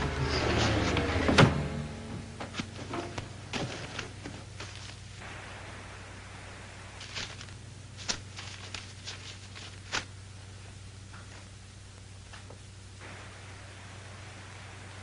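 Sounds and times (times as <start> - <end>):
steady low hum: 0.0 - 15.0
soft hiss: 1.6 - 15.0.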